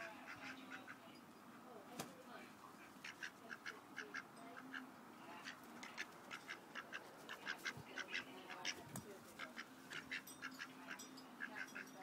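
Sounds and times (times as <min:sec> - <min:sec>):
duck quacking: 0:00.0 - 0:01.0, 0:03.0 - 0:12.0.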